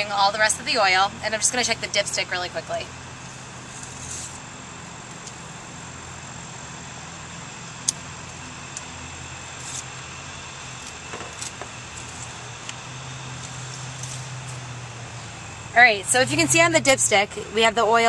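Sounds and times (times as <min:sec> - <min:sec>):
faint high whine: 0:00.0 - 0:18.0
steady low hum: 0:00.0 - 0:18.0.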